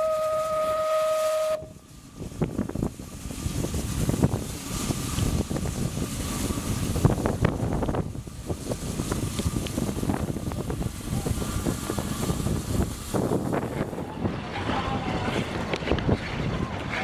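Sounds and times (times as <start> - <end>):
steam locomotive rolling: 0.0 - 17.0
wind buffeting microphone: 1.5 - 17.0.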